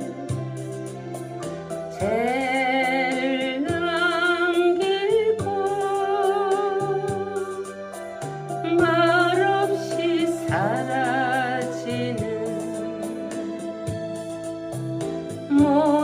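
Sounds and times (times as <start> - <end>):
karaoke backing track: 0.0 - 16.0
woman singing a ballad: 1.9 - 14.0, 15.2 - 16.0.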